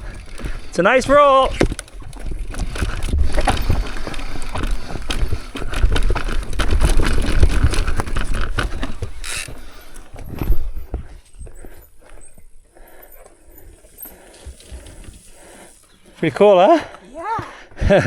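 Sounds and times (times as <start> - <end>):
bike rattling: 0.0 - 18.0
bike tyres rumbling over rock: 0.0 - 18.0.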